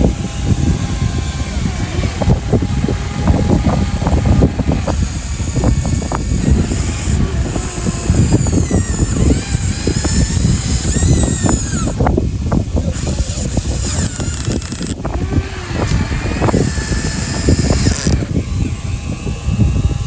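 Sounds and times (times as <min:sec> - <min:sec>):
electric motor whine: 0:00.0 - 0:20.0.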